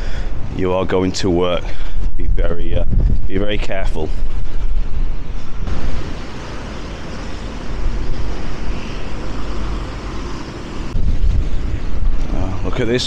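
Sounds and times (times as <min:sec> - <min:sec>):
strong wind on microphone: 0:01.6 - 0:13.0.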